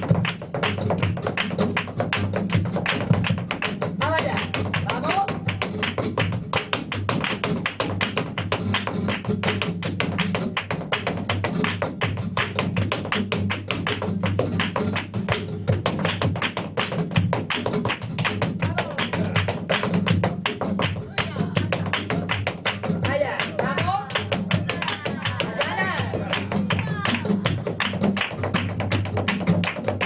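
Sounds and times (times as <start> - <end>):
flamenco guitar: 0.0 - 30.0.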